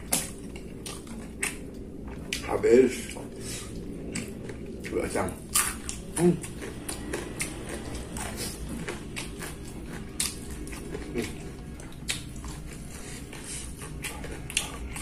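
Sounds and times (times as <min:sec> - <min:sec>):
person chewing food: 0:00.0 - 0:15.0
steady low hum: 0:00.0 - 0:15.0.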